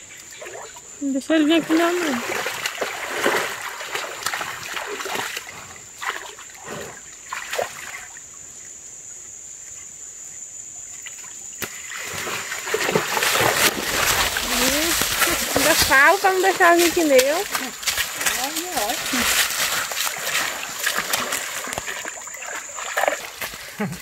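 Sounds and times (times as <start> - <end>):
water splashing and trickling: 0.0 - 9.8, 10.8 - 24.0.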